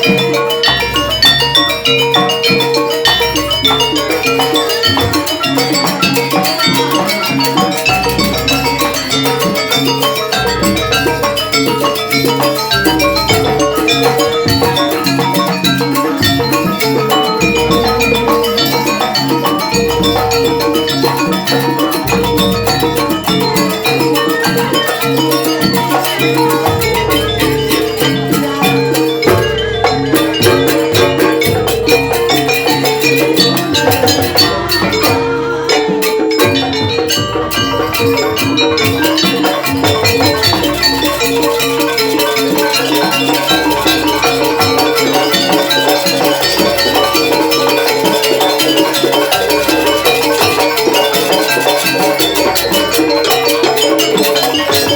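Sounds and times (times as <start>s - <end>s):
clanging metal percussion: 0.0s - 54.9s
driving drum pattern: 0.0s - 54.9s.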